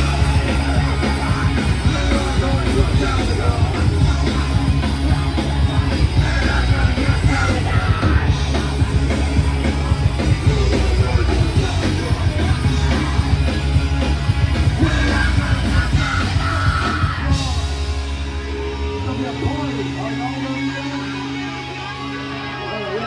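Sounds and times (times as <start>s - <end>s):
punk rock band playing live: 0.0s - 23.0s
yelled vocals: 0.0s - 23.0s.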